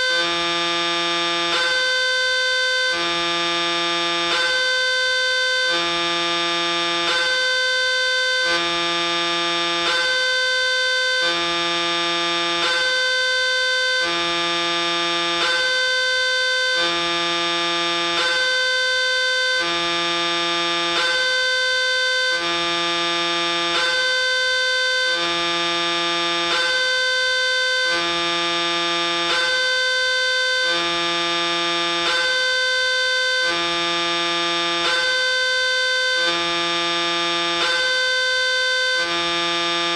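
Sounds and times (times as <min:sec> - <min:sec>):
two-tone crossing warning siren: 0:00.0 - 0:39.9.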